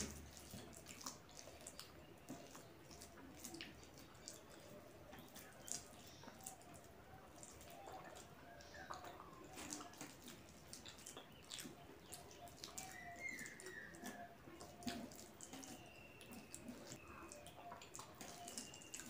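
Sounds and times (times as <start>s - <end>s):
chewing and lip-smacking: 0.0s - 19.0s.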